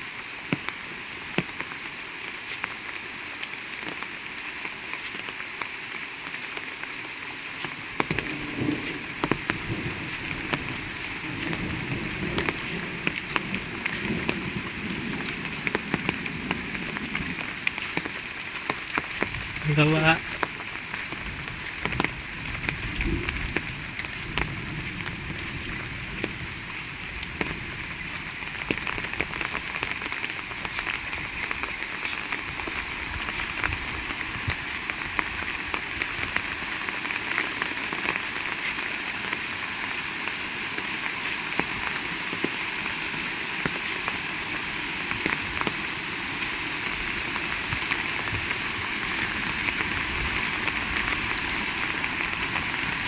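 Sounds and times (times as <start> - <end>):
heavy rain: 0.0 - 53.0
raindrops ticking on surfaces: 0.0 - 53.0.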